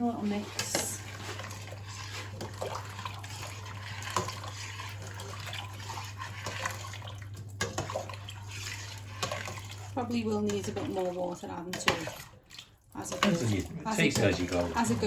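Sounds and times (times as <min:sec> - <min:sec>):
liquid swishing: 0:00.0 - 0:15.0.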